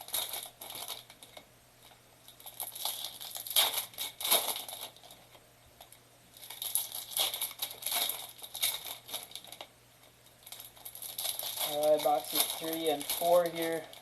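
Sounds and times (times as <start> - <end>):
plastic wrapping crinkling and tearing: 0.0 - 9.7, 10.4 - 14.0.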